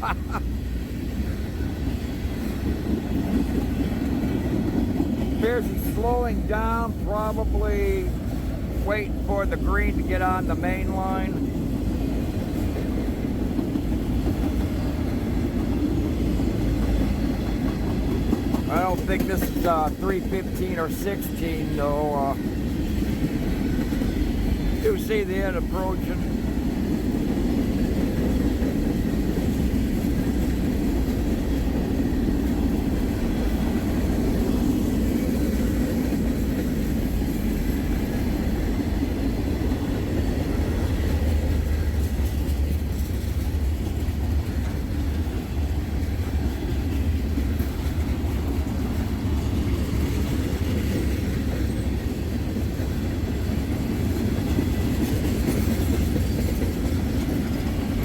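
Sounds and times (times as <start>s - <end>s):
clickety-clack over rail joints: 0.0s - 58.0s
train wheels rumbling on rails: 0.0s - 58.0s.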